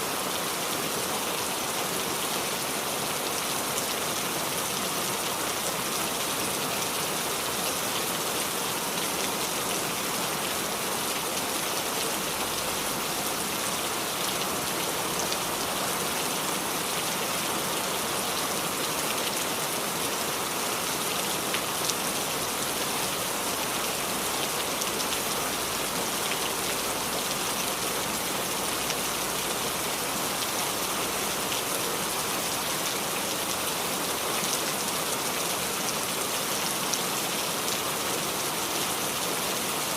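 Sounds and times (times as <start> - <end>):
rain dripping on a tree: 0.1 - 39.9.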